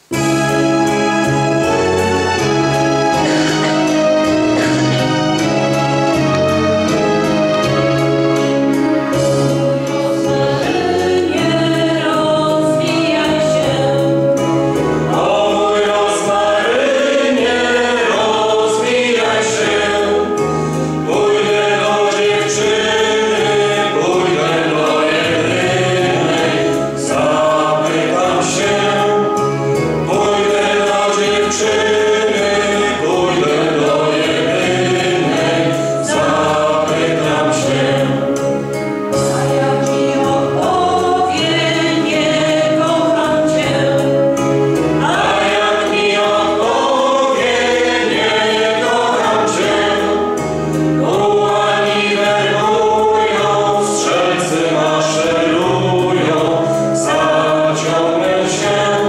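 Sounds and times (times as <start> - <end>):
small choir singing: 0.0 - 59.0.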